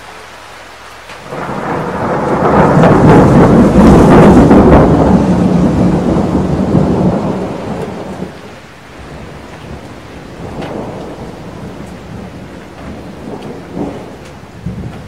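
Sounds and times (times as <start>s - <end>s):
steady rain: 0.0s - 15.0s
thunder rumbling: 1.2s - 15.0s.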